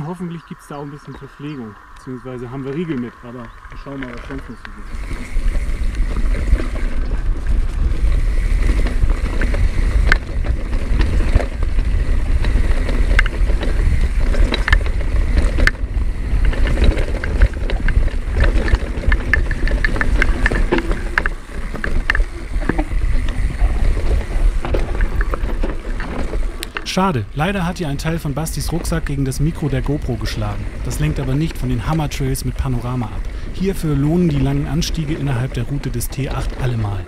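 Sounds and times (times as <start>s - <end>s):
wind rumble: 0.0s - 37.0s.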